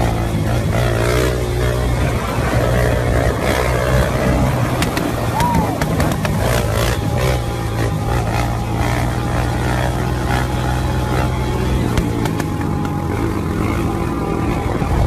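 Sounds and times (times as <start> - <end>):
quad engine running hard: 0.0 - 15.0
wind and road noise: 0.0 - 15.0.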